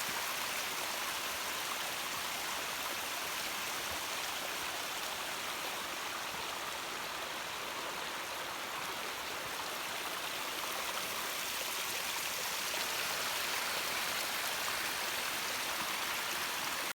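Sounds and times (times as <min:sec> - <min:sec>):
stream water flowing: 0:00.0 - 0:16.9.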